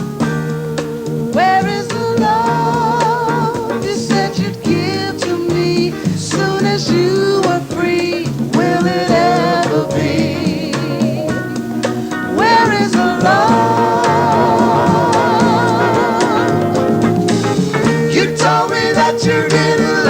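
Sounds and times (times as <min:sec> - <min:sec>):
live band playing: 0:00.0 - 0:20.0
people singing: 0:00.0 - 0:20.0
voice with wide vibrato: 0:00.0 - 0:20.0.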